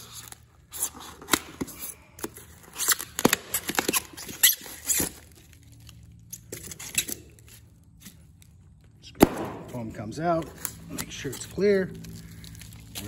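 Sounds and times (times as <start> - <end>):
foam squeaking and tearing: 0.0 - 8.3, 10.6 - 13.0.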